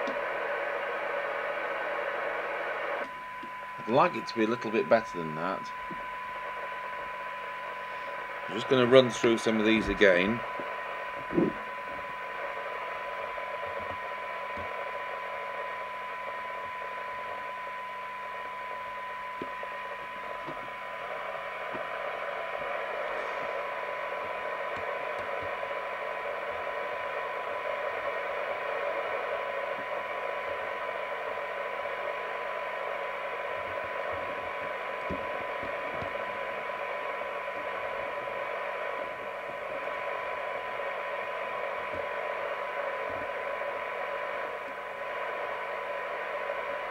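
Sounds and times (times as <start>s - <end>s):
radio test tone: 0.0s - 46.9s
receiver hiss: 0.0s - 46.9s.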